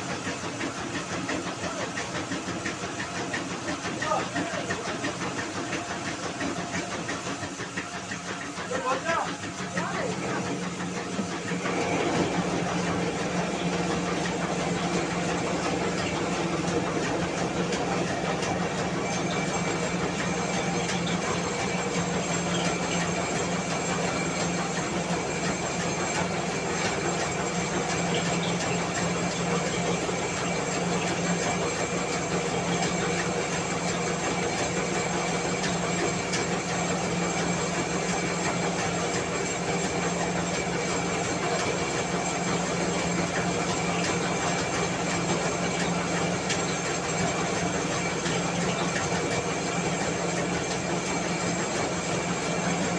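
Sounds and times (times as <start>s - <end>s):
rice mill running: 0.0s - 52.9s.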